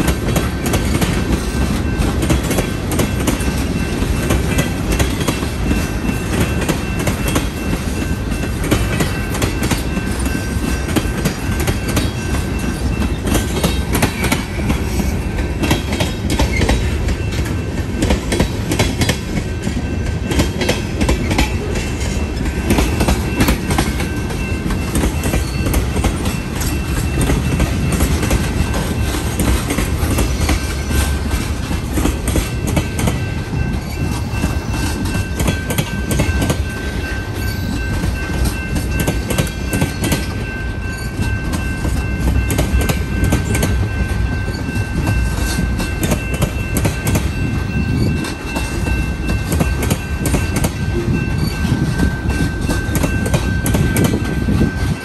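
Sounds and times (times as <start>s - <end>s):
freight train rumble: 0.0s - 55.0s.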